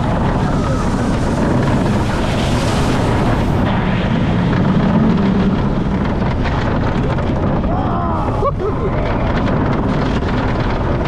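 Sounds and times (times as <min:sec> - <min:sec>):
coaster train low rumble: 0:00.0 - 0:11.0
wind rushing over microphone: 0:00.0 - 0:11.0.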